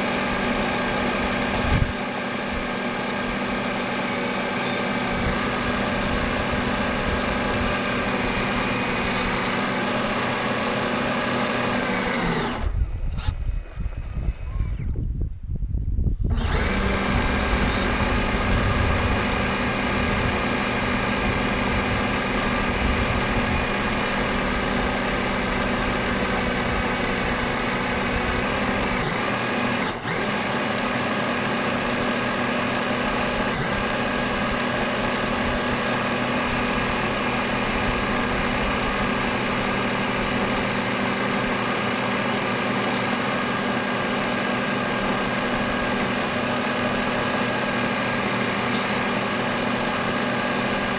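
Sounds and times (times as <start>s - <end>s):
model boat motor whining: 0.0s - 15.0s, 16.3s - 50.9s.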